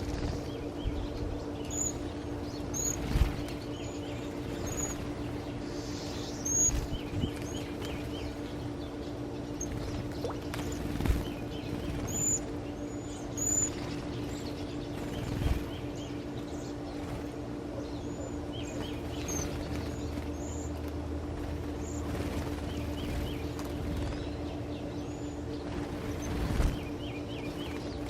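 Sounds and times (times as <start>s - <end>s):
small birds chirping: 0.0s - 28.0s
steady low hum: 0.0s - 28.0s.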